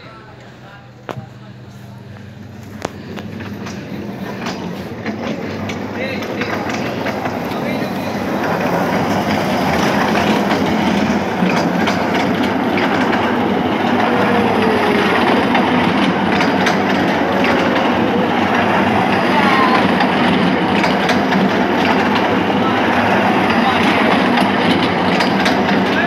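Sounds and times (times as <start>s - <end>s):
faint voices: 0.0s - 26.0s
ride-on toy train running: 1.5s - 26.0s.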